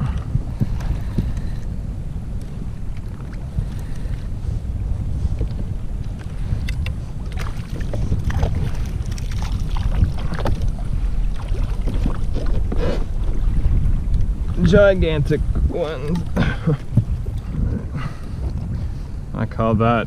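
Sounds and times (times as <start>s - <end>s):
water lapping: 0.0s - 19.3s
wind buffeting microphone: 0.0s - 20.0s.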